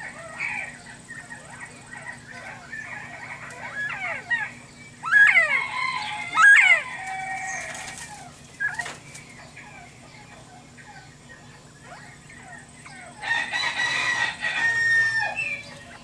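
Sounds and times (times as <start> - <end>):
quail calling: 0.0 - 16.0.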